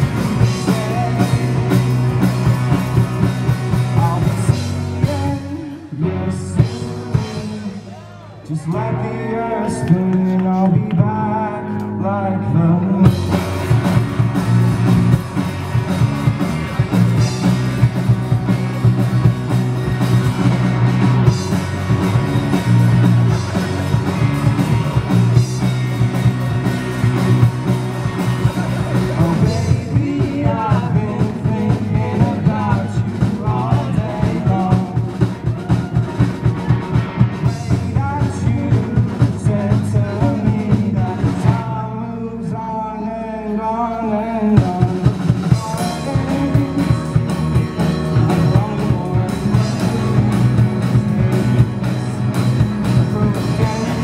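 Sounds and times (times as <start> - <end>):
drum kit: 0.0 - 7.9, 13.0 - 41.8, 44.5 - 54.0
electric guitars: 0.0 - 54.0.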